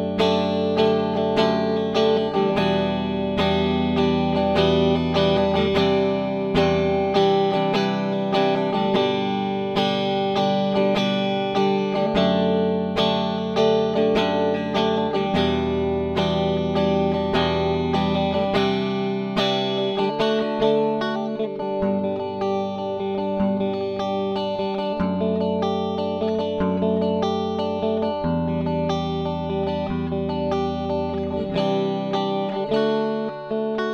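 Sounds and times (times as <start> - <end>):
clean electric guitar chords: 0.0 - 33.9.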